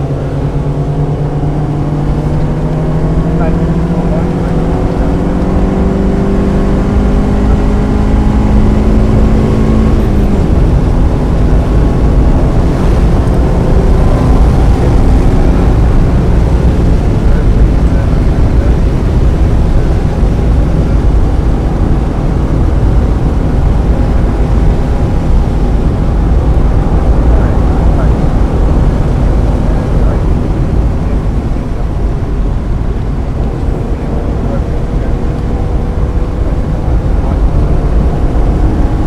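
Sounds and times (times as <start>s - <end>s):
car engine pulling: 0.0s - 39.0s.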